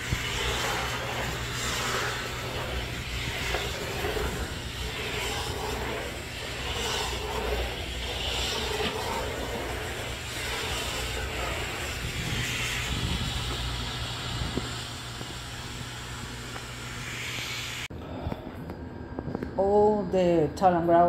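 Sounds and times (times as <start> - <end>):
low mechanical hum with hiss: 0.0 - 21.0.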